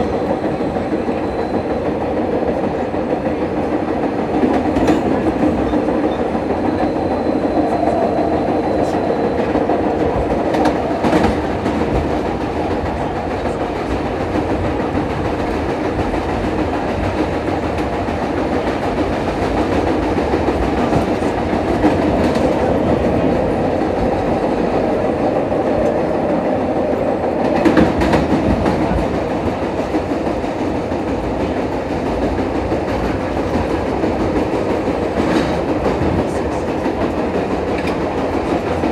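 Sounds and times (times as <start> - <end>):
subway train rumbling: 0.0 - 38.9.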